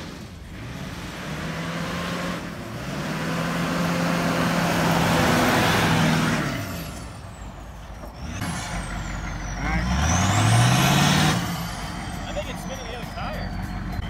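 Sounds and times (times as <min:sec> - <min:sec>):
truck engine climbing: 0:00.0 - 0:14.0.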